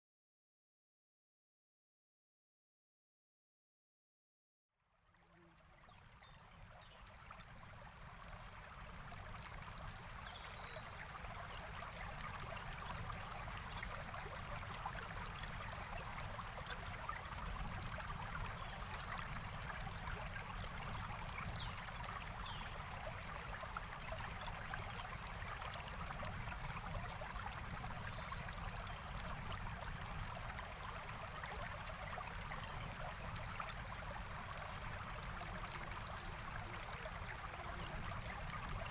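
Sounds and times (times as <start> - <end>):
forest stream flowing: 5.2 - 38.9.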